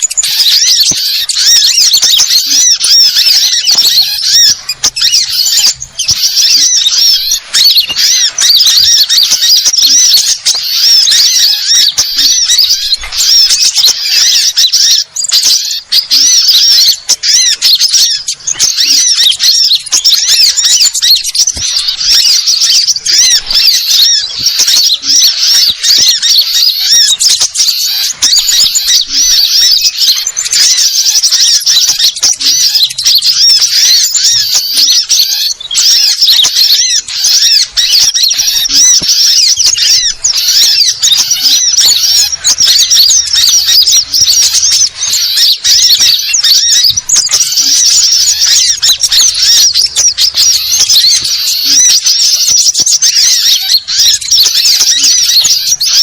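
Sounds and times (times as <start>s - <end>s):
small birds chattering chorus: 0.0s - 56.0s.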